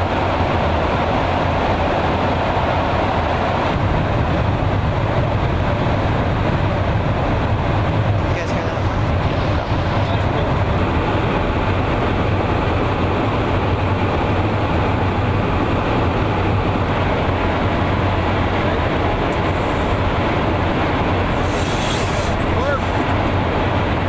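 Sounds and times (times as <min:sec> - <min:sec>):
aircraft engine and airflow drone: 0:00.0 - 0:24.0.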